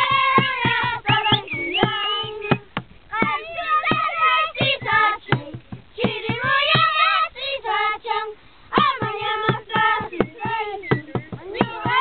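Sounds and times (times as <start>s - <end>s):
small drum beats: 0.0s - 8.1s, 8.7s - 12.0s
boy singing: 0.0s - 12.0s.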